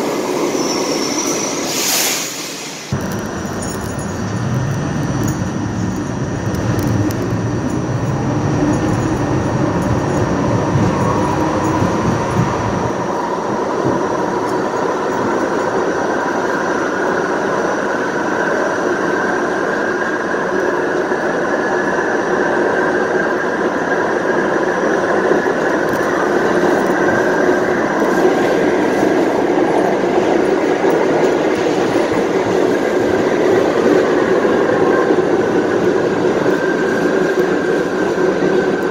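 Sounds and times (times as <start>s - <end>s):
train traction motors howling: 0.0s - 38.9s
wheel and rail noise: 0.0s - 38.9s.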